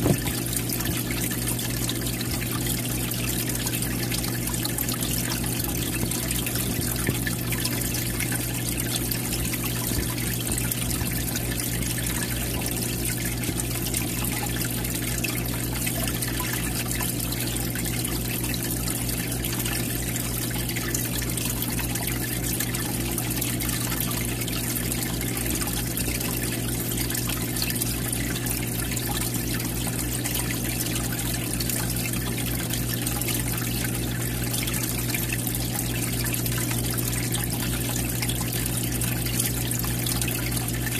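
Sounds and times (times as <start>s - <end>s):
low steady hum: 0.0s - 40.9s
water trickling and splashing: 0.0s - 40.9s.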